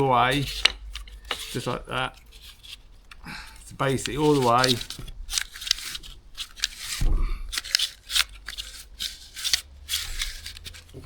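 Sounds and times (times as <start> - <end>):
recoil starter scraping and clicking: 0.0 - 11.0.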